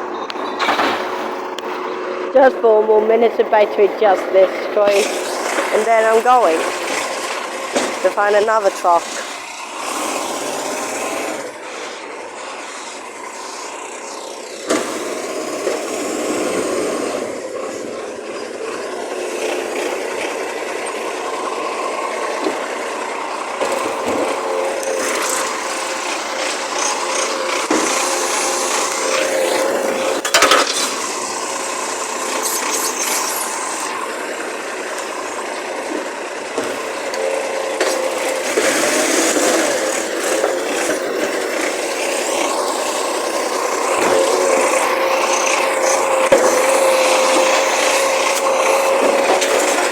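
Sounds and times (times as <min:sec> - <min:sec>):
vehicle engine running: 0:00.0 - 0:49.9.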